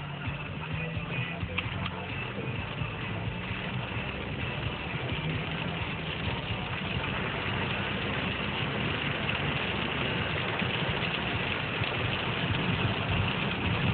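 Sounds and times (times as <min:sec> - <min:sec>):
engine idling: 0:00.0 - 0:13.9
heavy rain on a vehicle: 0:00.0 - 0:13.9.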